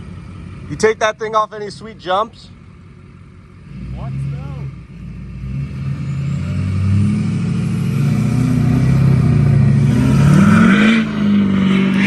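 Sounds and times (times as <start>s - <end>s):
road or tyre noise: 0.0s - 12.0s
vehicle engine running: 0.0s - 12.0s.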